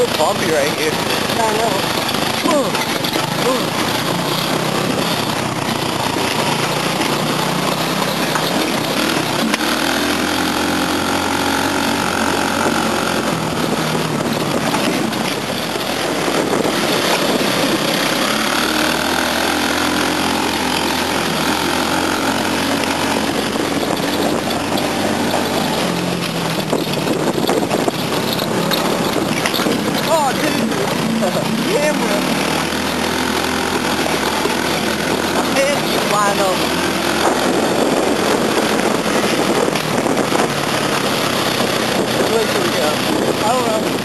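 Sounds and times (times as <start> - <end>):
go-kart engine running: 0.0 - 44.0
kart rattling: 0.0 - 44.0
wind noise: 0.0 - 44.0.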